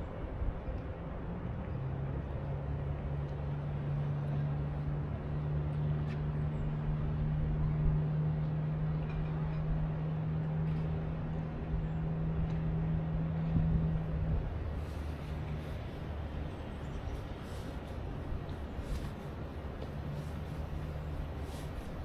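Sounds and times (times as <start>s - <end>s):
steady background noise: 0.0s - 22.0s
vehicle engine humming: 1.2s - 22.0s.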